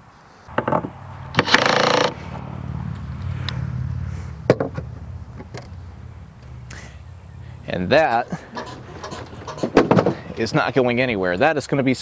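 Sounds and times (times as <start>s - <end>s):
steady low hum: 0.8s - 11.3s.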